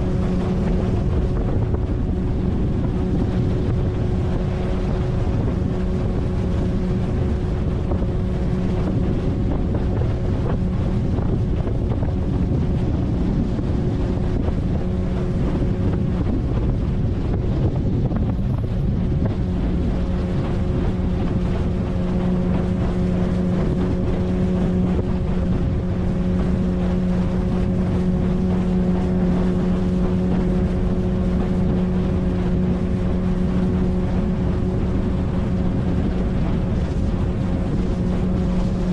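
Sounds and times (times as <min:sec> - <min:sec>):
outboard motor running steadily: 0:00.0 - 0:38.9
wind on microphone: 0:00.0 - 0:38.9.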